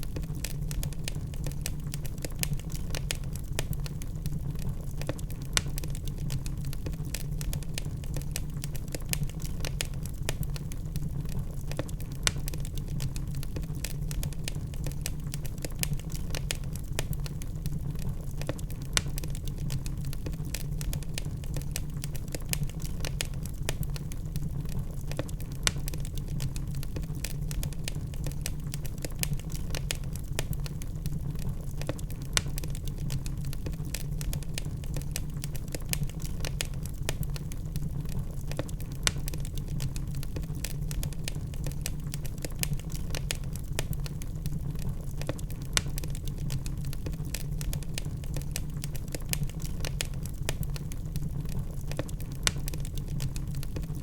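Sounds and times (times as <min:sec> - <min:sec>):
low rumble of flames: 0:00.0 - 0:54.0
wood fire crackling: 0:00.0 - 0:54.0
loud pops of burning wood: 0:00.1 - 0:54.0.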